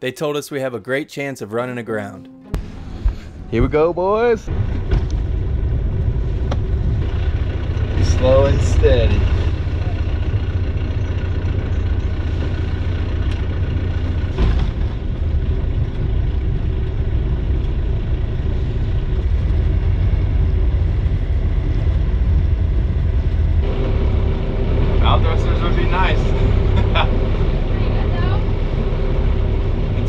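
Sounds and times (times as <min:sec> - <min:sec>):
boat engine droning: 0:02.5 - 0:30.0.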